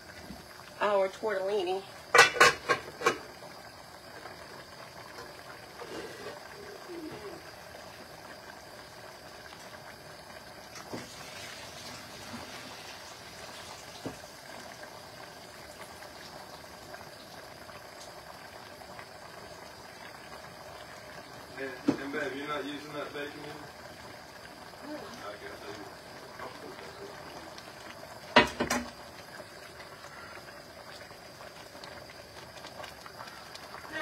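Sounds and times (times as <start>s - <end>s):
water hissing and trickling: 0.0s - 34.0s.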